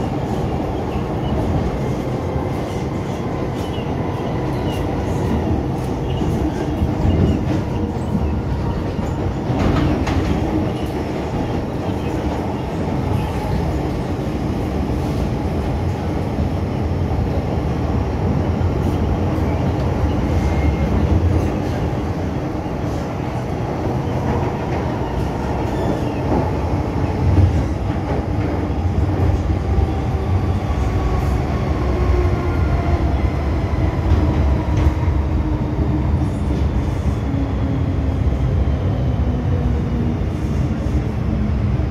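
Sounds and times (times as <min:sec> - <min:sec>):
wheels rumbling on rail: 0:00.0 - 0:41.9.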